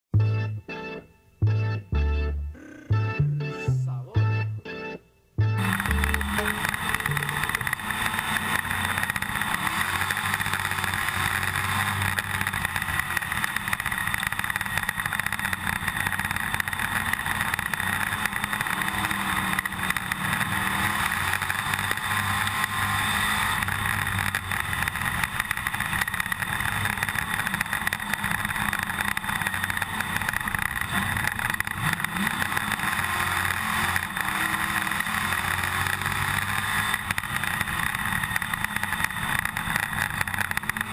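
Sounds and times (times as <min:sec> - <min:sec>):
onboard camera rattling: 0:05.6 - 0:22.8, 0:23.4 - 0:40.9
race car engine running hard: 0:05.6 - 0:40.9.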